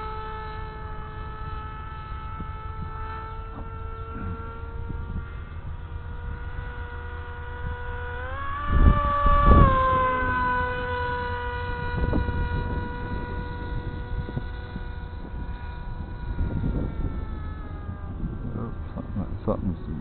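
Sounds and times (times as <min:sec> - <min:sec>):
electric motor and propeller droning: 0:00.0 - 0:20.0
wind buffeting microphone: 0:00.0 - 0:20.0.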